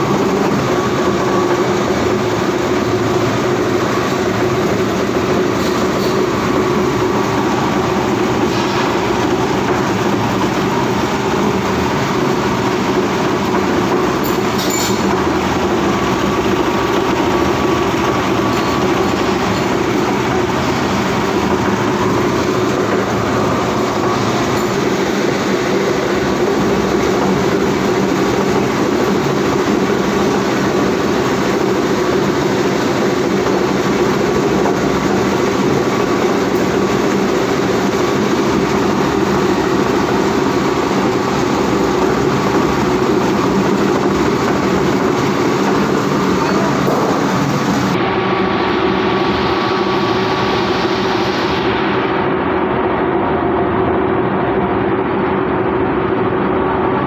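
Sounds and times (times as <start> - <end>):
rotor machine droning: 0.0 - 57.0.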